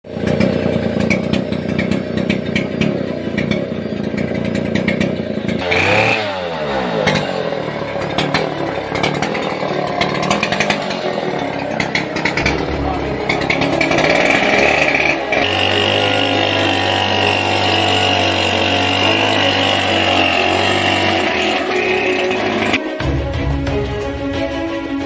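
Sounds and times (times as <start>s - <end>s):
small petrol engine running: 0.0s - 22.8s
rapid clicking and knocking: 0.1s - 6.0s, 7.0s - 22.8s.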